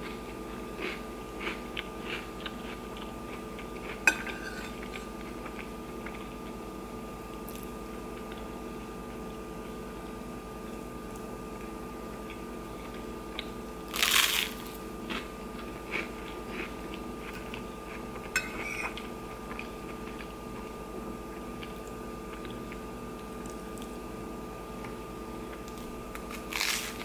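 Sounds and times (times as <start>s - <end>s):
crunching and chewing food: 0.0s - 27.0s
steady hum: 0.0s - 27.0s.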